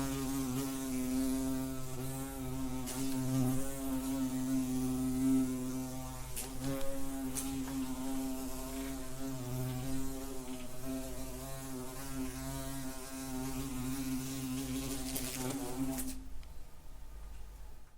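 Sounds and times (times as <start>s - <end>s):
wasp buzzing in flight: 0.0s - 16.2s.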